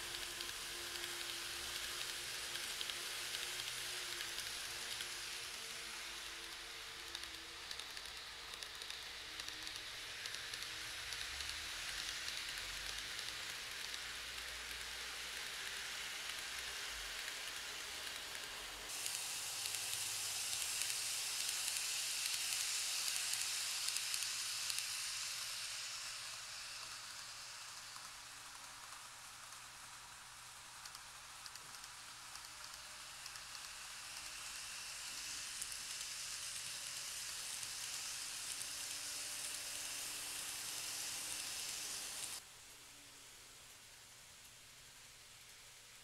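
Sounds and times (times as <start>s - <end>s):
model trains rattling on track: 0.0s - 42.4s.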